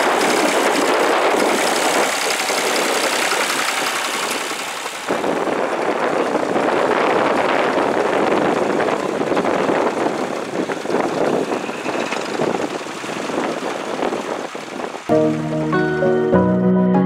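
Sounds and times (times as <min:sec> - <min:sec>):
tractor engine running: 0:00.0 - 0:16.4.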